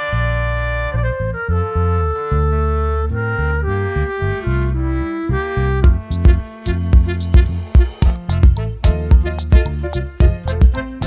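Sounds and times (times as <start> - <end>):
pulsing bass line: 0.0 - 11.0
reedy wind instrument melody: 0.0 - 11.0.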